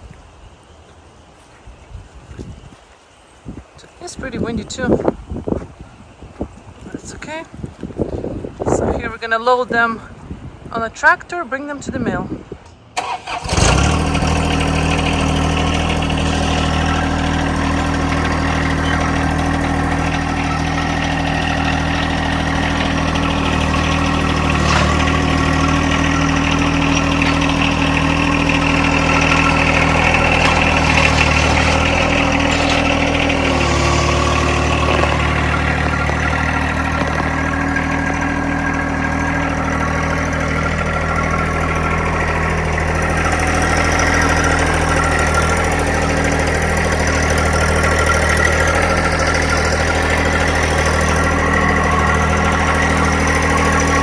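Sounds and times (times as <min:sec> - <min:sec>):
tractor engine running: 0:00.0 - 0:11.9, 0:12.8 - 0:54.0.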